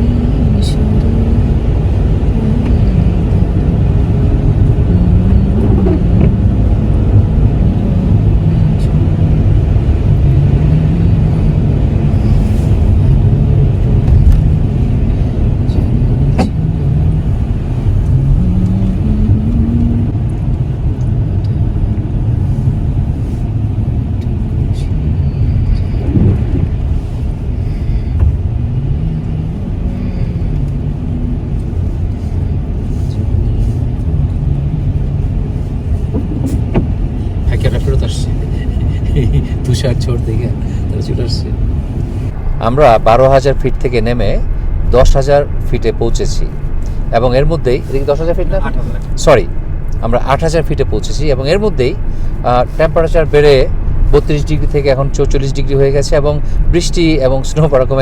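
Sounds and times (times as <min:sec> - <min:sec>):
car engine hum: 0:00.0 - 0:58.0
road noise inside car: 0:00.0 - 0:58.0.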